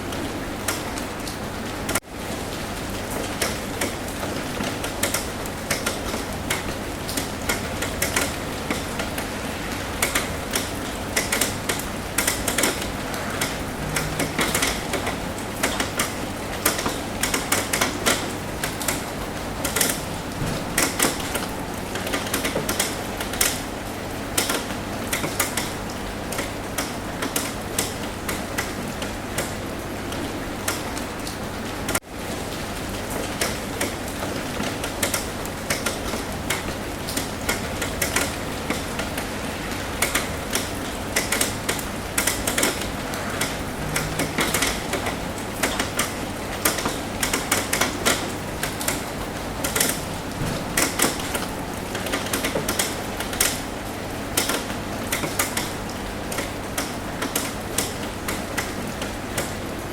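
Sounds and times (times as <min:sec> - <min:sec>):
rain hissing on a roof: 0:00.0 - 0:59.9
sharp raindrop taps: 0:00.1 - 0:59.6.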